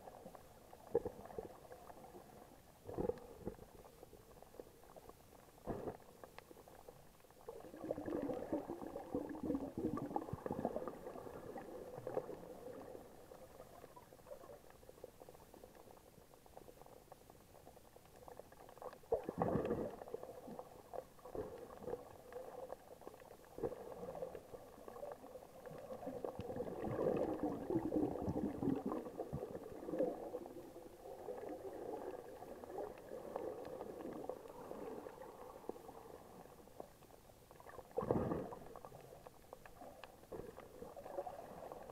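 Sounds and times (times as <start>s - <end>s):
muffled underwater bubbling: 0.0s - 16.1s, 18.4s - 41.9s.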